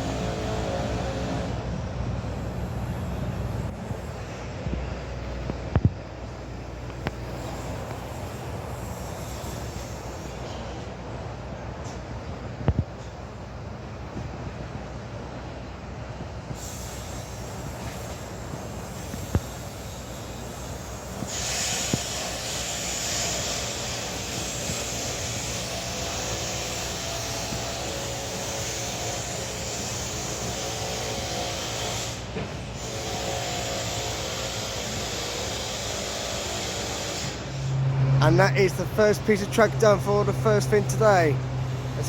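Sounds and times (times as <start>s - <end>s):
machinery noise with hiss: 0.0s - 42.0s.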